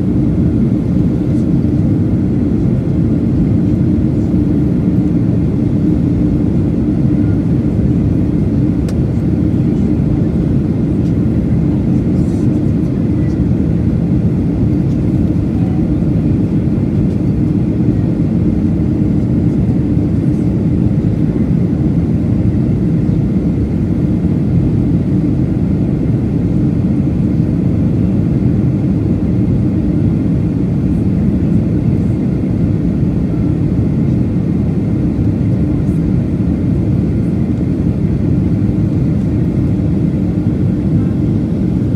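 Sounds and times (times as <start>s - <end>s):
jet engine roar in cabin: 0.0s - 41.9s.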